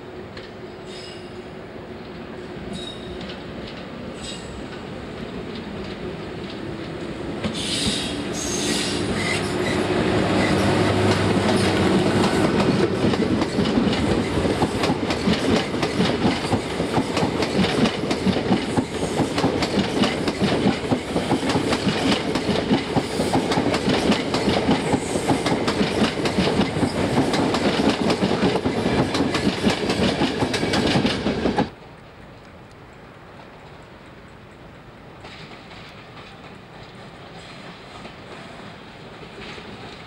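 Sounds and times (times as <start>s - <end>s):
train wheels clickety-clack: 2.0s - 31.8s, 33.4s - 40.0s
train rumble: 2.0s - 40.0s.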